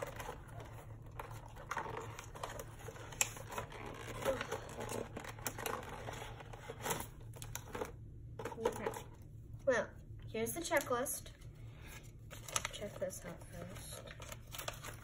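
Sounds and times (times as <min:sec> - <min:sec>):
plastic packaging crinkling: 0:00.0 - 0:09.2, 0:12.2 - 0:15.0.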